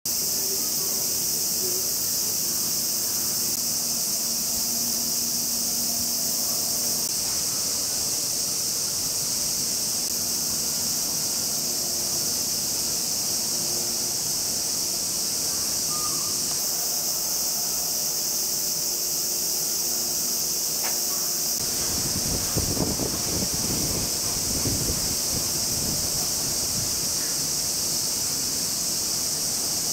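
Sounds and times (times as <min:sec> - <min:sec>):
high-pitched insect chorus: 0:00.1 - 0:29.9.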